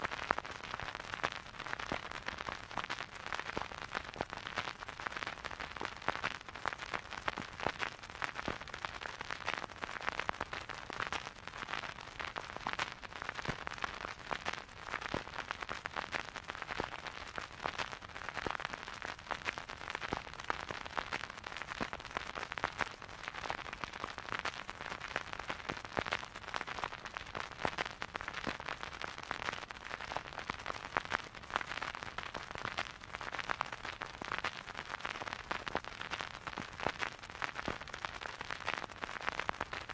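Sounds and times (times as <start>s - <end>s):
vinyl record crackle and pops: 0.0s - 39.9s.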